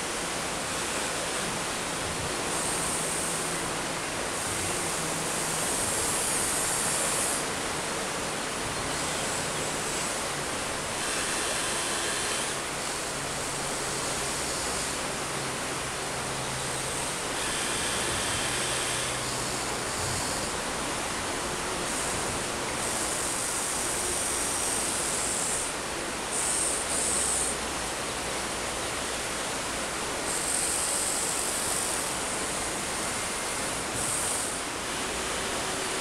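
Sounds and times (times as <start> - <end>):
river rushing: 0.0 - 36.0.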